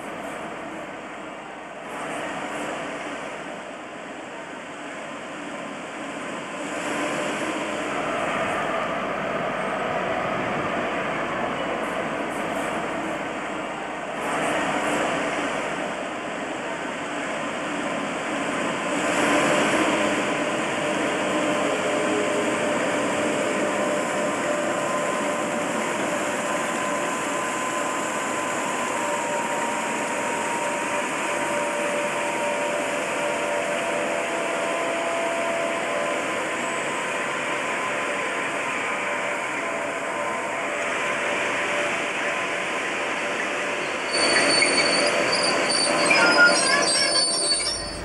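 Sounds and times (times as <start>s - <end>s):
train passing slowly: 0.0s - 48.0s.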